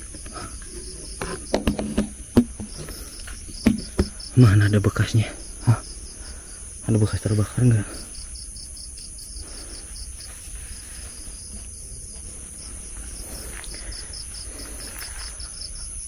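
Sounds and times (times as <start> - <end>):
crickets chirping: 0.0 - 16.0
high-pitched insect drone: 0.0 - 16.0.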